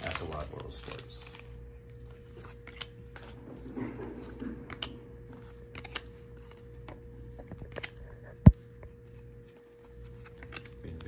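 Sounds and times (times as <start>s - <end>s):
cards rustling: 0.0s - 11.0s.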